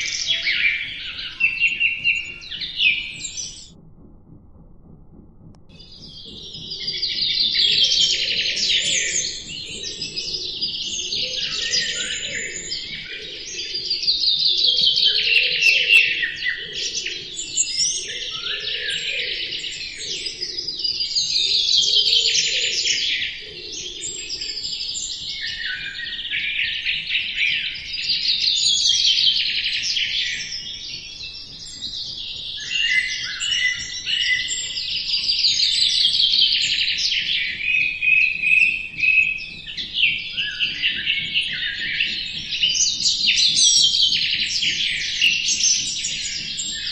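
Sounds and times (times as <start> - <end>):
songbirds singing: 0.0 - 3.8, 5.7 - 46.9.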